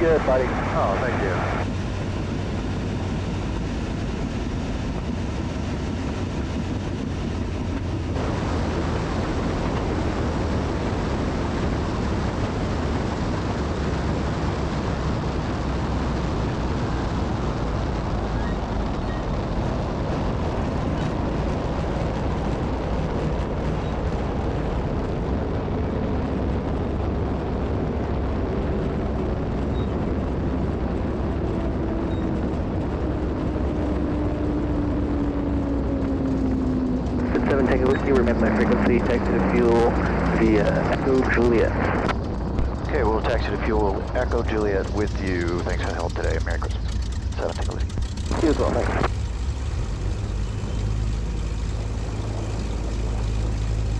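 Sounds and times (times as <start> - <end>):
propeller plane engine running: 0.0 - 53.9
wind and airflow noise: 0.0 - 53.9.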